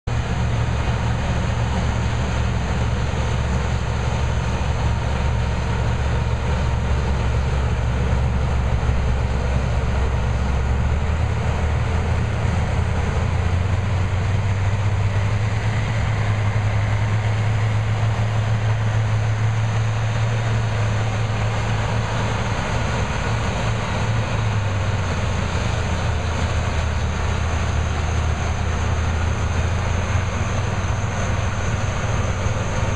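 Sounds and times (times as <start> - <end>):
diesel engine drone: 0.0 - 32.9.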